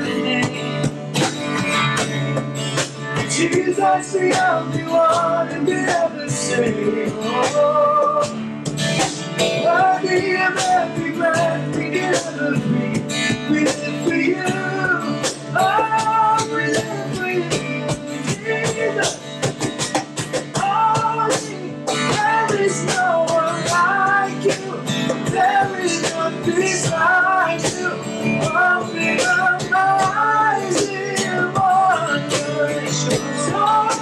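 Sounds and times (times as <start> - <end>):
strummed acoustic guitar: 0.0 - 34.0
men singing worship song: 3.3 - 8.4, 9.6 - 19.3, 20.5 - 34.0.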